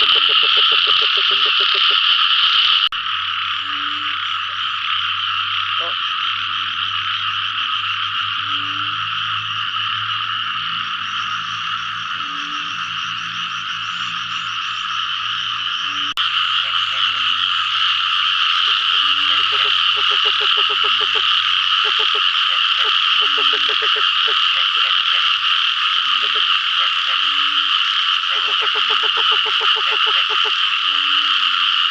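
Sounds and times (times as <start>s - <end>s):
low single frog croaks: 0.0s - 2.2s, 3.1s - 31.9s
chorus of frogs calling: 0.0s - 31.9s.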